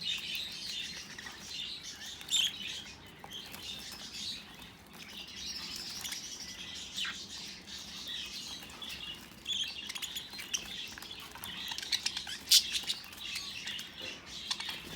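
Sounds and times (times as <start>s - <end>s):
budgerigars chattering and chirping: 0.0s - 14.9s.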